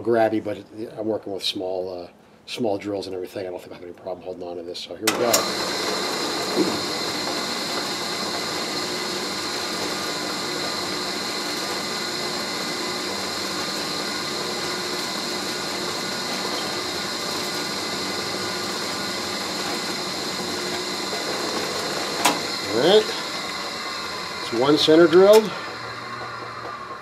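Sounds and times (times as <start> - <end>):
drill press motor whine: 5.1 - 27.0.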